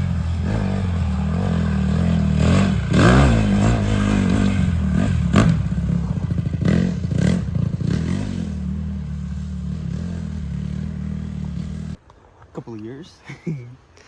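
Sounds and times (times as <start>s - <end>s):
dirt bike engine idling and revving: 0.0s - 12.0s.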